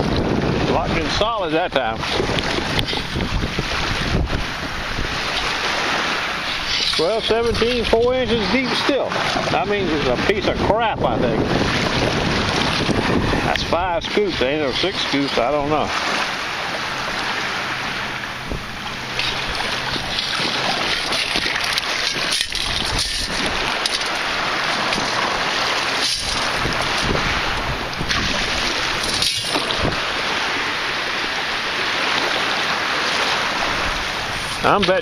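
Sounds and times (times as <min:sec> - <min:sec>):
shallow water sloshing: 0:00.0 - 0:35.0
wind on microphone: 0:00.0 - 0:35.0.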